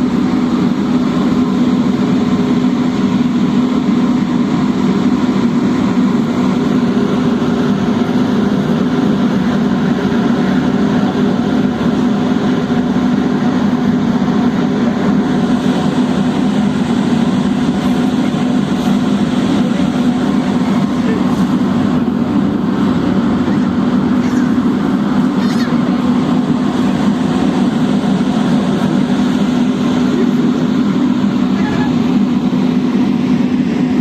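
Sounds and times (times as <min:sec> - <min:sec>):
ferry engine droning: 0:00.0 - 0:34.0.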